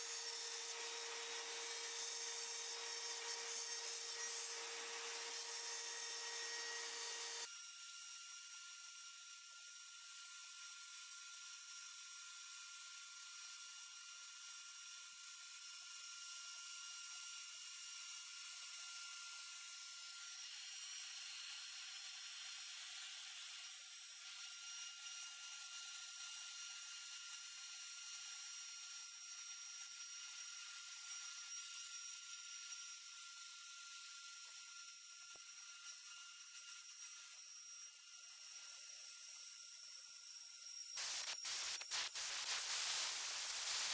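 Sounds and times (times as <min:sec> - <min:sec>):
router high-pitched whine: 0:00.0 - 0:43.9.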